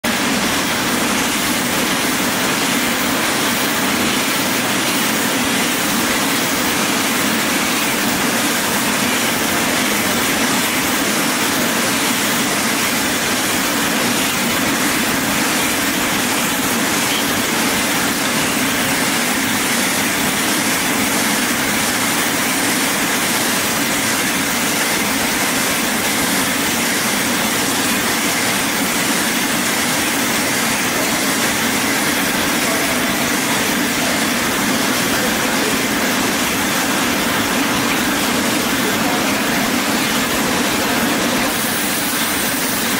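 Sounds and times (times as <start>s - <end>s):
bottle-filling machine humming: 0.0s - 42.9s.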